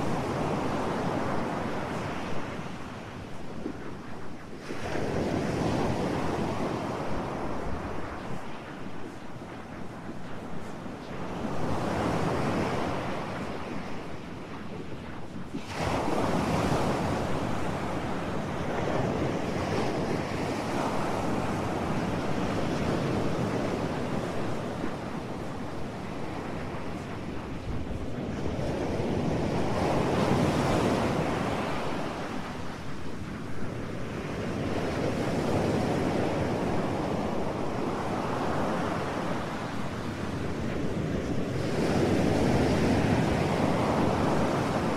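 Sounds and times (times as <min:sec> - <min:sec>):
ocean surf: 0:00.0 - 0:44.9.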